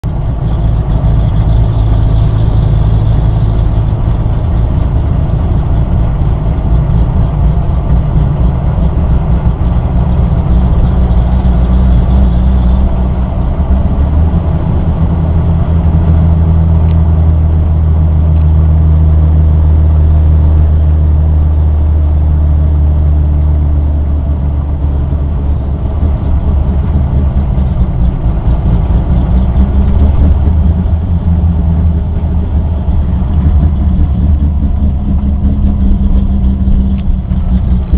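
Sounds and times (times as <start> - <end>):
low car droning inside cabin: 0.0 - 37.9.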